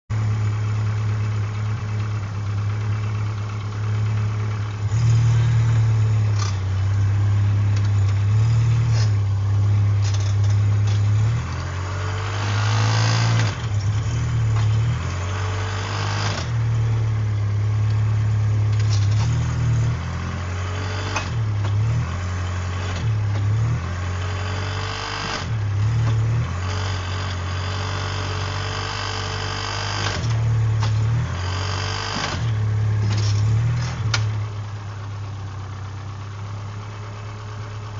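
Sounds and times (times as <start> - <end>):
car engine drone: 0.1 - 37.9.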